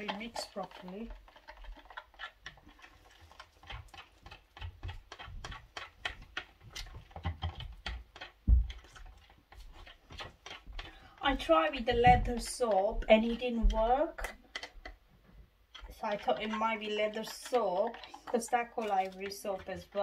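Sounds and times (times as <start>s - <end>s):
stirrer tapping plastic cup: 0.0s - 15.0s, 15.8s - 20.0s.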